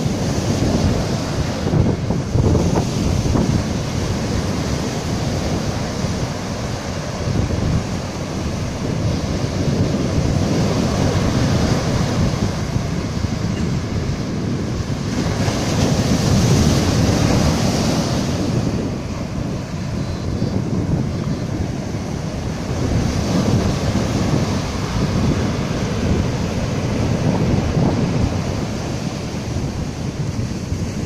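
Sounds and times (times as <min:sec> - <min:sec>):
surf breaking on sandy beach: 0:00.0 - 0:31.0
wind rumbling on microphone: 0:00.0 - 0:31.0.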